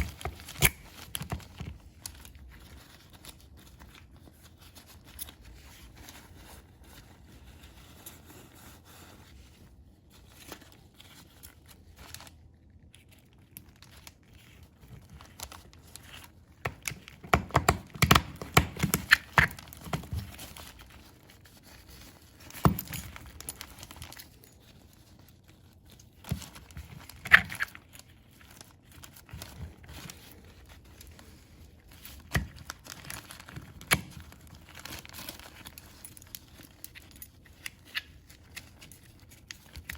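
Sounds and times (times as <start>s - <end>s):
paper or plastic rustling: 0.0s - 39.9s.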